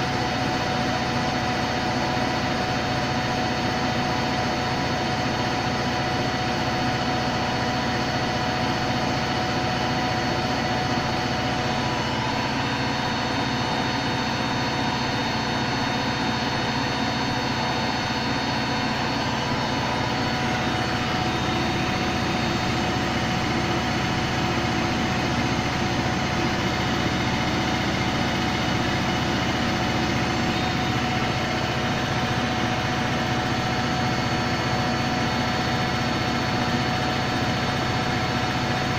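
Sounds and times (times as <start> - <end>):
washing machine spin cycle: 0.0 - 38.9.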